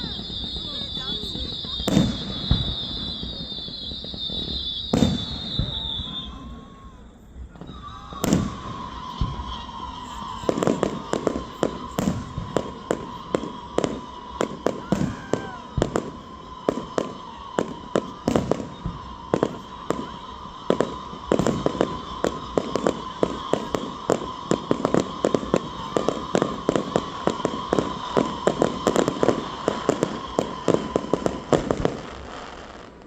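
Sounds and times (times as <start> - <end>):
fireworks bangs and cracks: 0.0 - 33.0.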